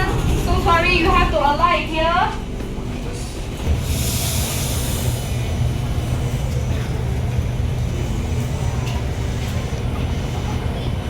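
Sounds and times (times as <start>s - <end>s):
metro train low rumble: 0.0s - 11.0s.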